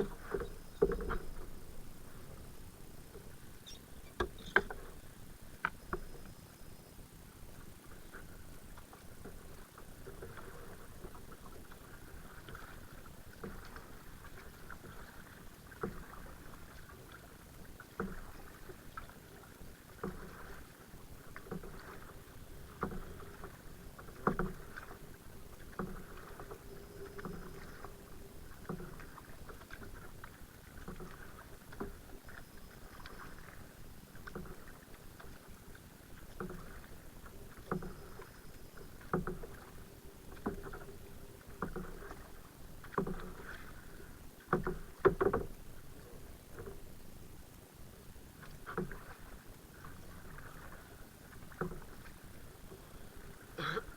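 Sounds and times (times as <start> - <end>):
paddle strokes splashing: 0.0 - 53.9.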